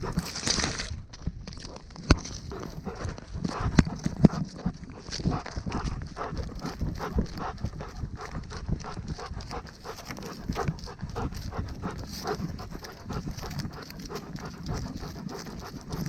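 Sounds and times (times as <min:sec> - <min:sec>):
dog breathing: 0:02.2 - 0:16.0.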